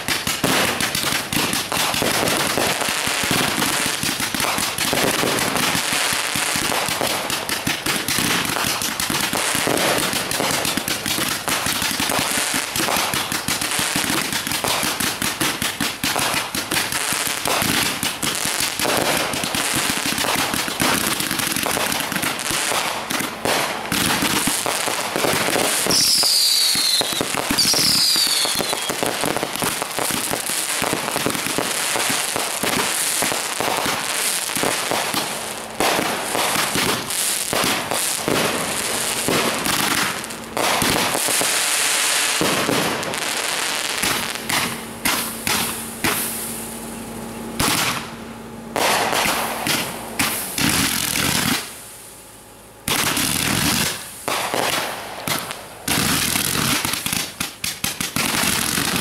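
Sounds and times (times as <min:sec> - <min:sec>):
falling firework whistles: 0:00.0 - 0:46.9, 0:48.8 - 0:52.1, 0:52.9 - 0:59.0
fireworks bangs and crackling: 0:00.0 - 0:59.0.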